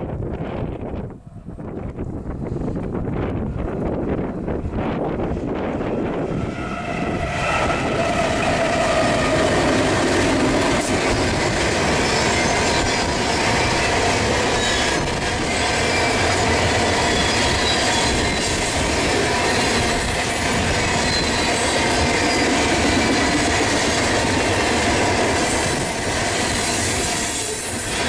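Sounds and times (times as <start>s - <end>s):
diesel locomotive engines: 0.0s - 28.0s
freight cars rolling on rails: 1.9s - 28.0s.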